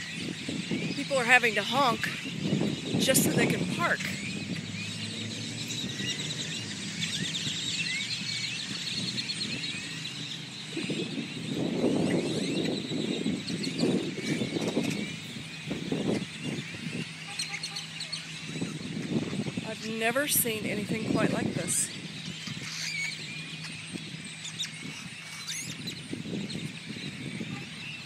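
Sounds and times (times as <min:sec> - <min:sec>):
flock of birds chirping: 0:00.0 - 0:28.0.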